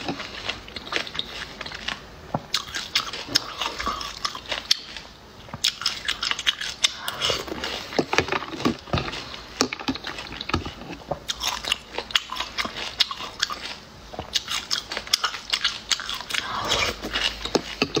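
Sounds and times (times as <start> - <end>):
person chewing snail shells: 0.0 - 18.0.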